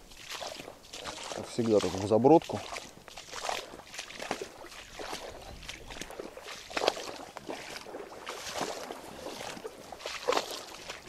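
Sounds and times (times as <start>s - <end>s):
wading through shallow water: 0.0s - 11.0s.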